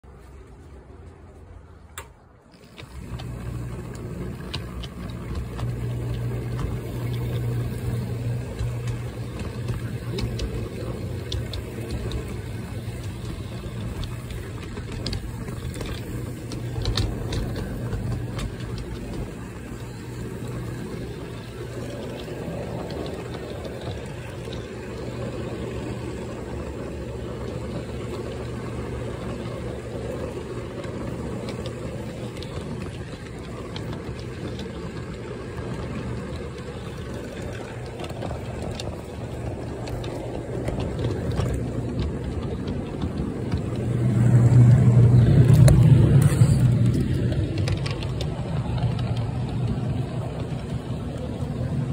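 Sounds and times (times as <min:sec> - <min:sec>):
wheels rolling on rails: 0:00.0 - 0:51.9
model train motor humming: 0:02.0 - 0:51.9.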